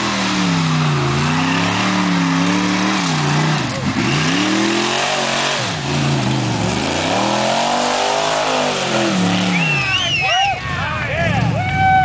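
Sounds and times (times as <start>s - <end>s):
engine revving hard: 0.0s - 10.0s.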